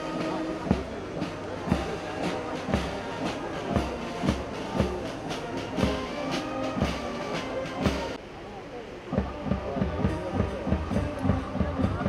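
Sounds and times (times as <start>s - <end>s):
music with steady drum beat: 0.0s - 8.2s, 9.1s - 12.0s.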